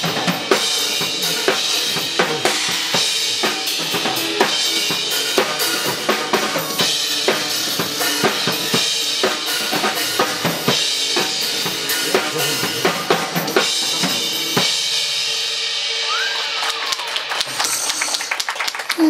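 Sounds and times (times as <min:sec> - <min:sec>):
cymbals: 0:00.0 - 0:18.6
backing music: 0:00.0 - 0:18.9
drum kit beat: 0:00.0 - 0:19.0.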